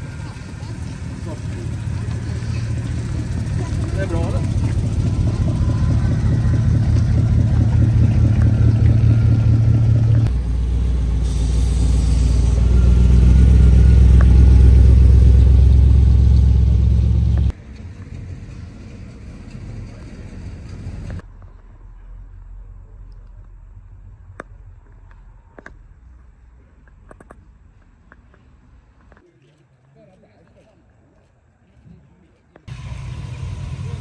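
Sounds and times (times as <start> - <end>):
car engines rumbling: 0.0 - 29.2, 32.7 - 34.0.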